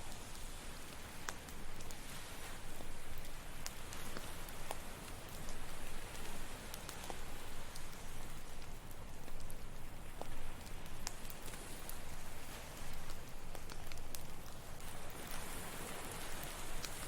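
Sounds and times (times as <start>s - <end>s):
campfire crackling and popping: 0.0s - 17.0s
ocean waves on shore: 0.0s - 17.0s.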